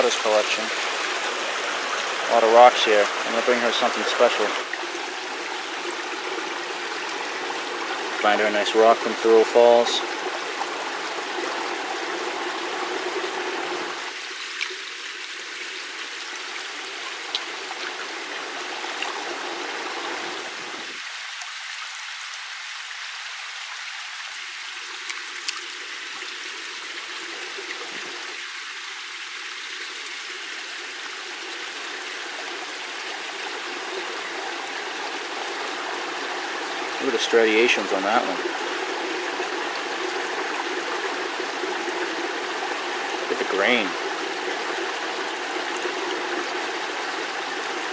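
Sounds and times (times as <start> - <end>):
water running over rock: 0.0 - 47.9.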